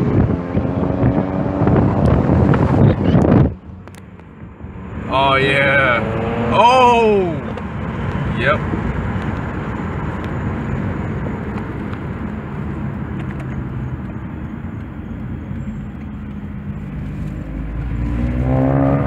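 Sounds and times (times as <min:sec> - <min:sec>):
car engine rumbling: 0:00.0 - 0:19.0
outdoor ambient noise: 0:00.0 - 0:19.0.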